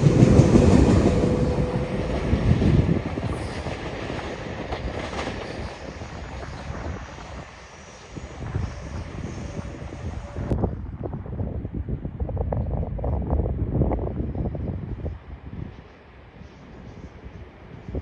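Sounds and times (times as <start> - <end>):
train rumbling past on rails: 0.0 - 18.0.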